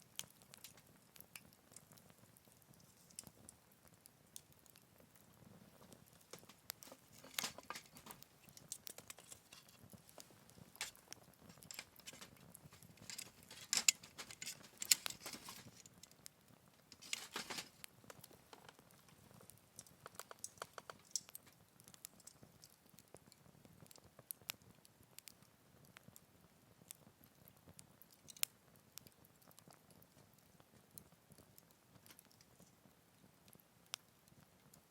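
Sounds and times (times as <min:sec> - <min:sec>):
faint hiss: 0:00.0 - 0:29.3
wood fire crackling: 0:00.0 - 0:34.9.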